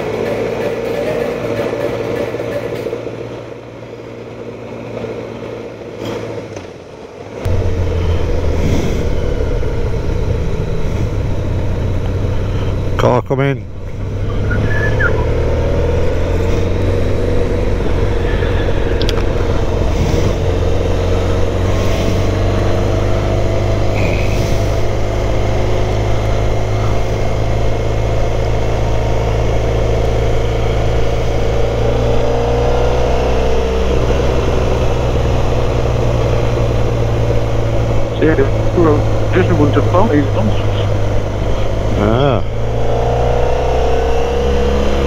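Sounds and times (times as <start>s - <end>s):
motorcycle engine running: 0.0s - 4.4s, 7.4s - 45.0s
road noise: 0.0s - 45.0s.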